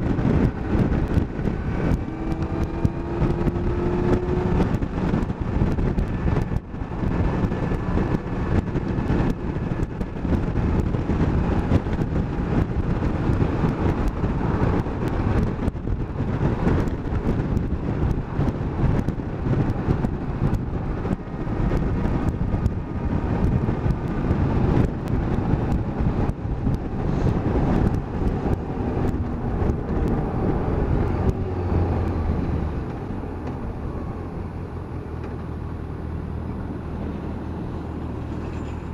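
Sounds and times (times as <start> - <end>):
motorcycle engine running: 0.0 - 35.1
wind buffeting on microphone: 0.0 - 38.9.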